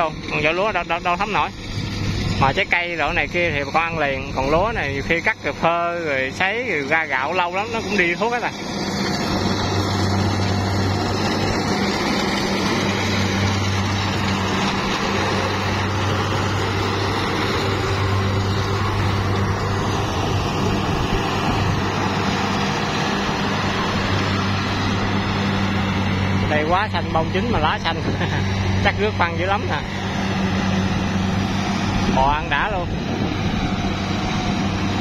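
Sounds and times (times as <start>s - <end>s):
engine running with low hum: 0.0s - 35.0s.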